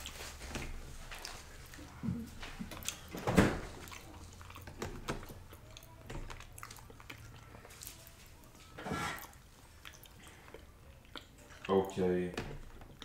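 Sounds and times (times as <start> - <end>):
person chewing: 0.0 - 12.0, 12.6 - 13.0.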